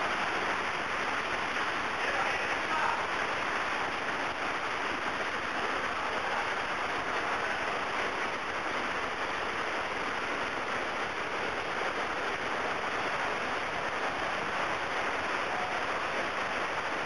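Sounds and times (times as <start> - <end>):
rushing water hiss: 0.0 - 17.0.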